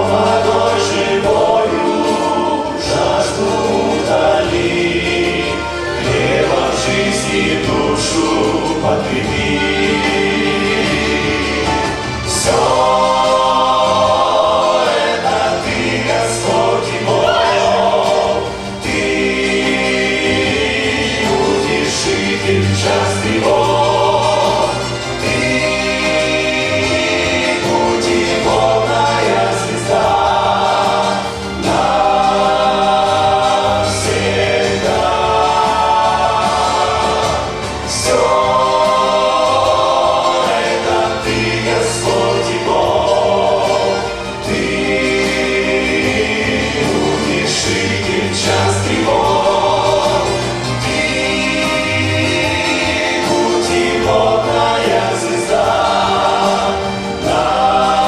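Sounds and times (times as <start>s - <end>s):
choir singing a worship song: 0.0s - 58.0s.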